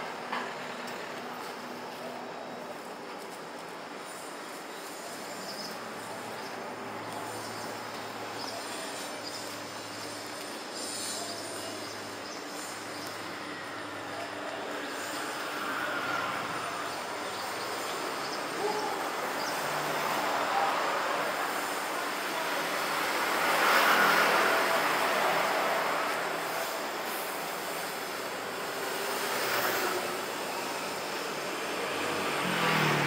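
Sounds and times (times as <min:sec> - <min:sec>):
motor vehicles passing: 0:05.6 - 0:33.0.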